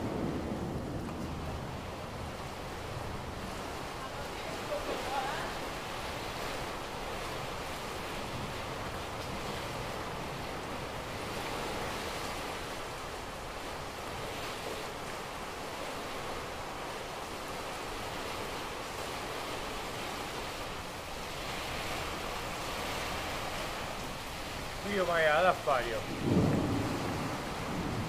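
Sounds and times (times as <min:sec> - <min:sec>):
torrential rain through window: 0:00.0 - 0:28.0.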